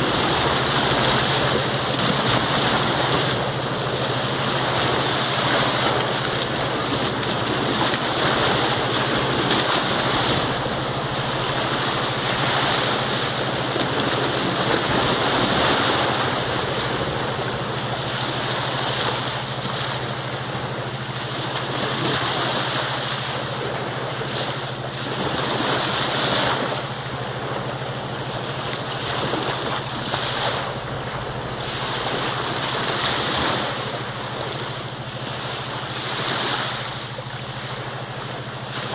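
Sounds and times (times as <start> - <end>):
small waves washing on shore: 0.0 - 38.9.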